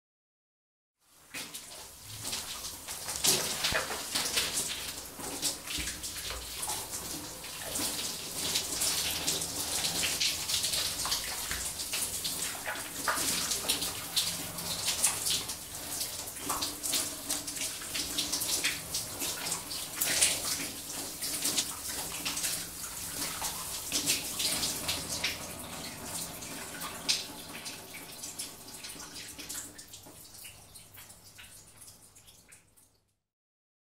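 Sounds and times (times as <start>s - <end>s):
shower water spraying and splashing: 1.1s - 32.0s.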